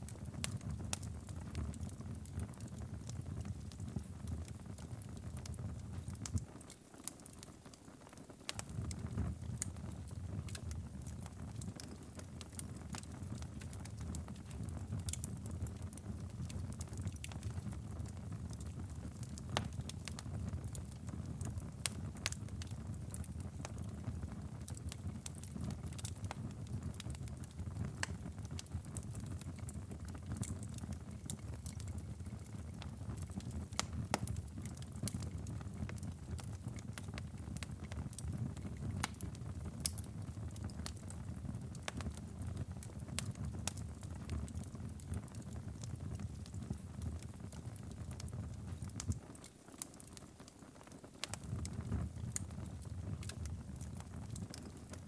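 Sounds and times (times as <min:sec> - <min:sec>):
low fire rumble: 0:00.0 - 0:06.6, 0:08.5 - 0:55.0
fire crackling and popping: 0:00.0 - 0:55.0.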